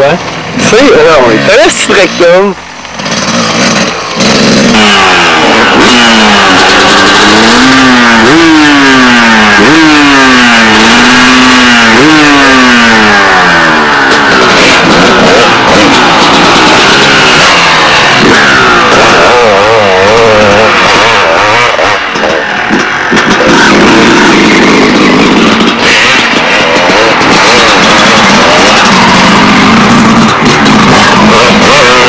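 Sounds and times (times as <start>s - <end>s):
motocross bike engine revving: 0.0s - 32.0s.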